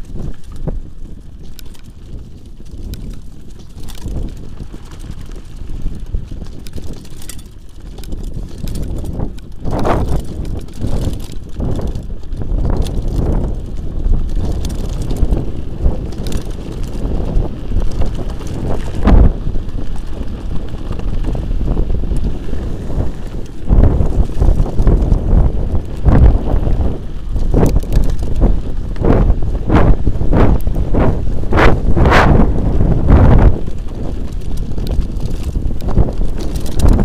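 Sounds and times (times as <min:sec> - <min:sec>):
bike tyres and frame rattling: 0:00.0 - 0:37.0
wind buffeting microphone: 0:00.0 - 0:37.0.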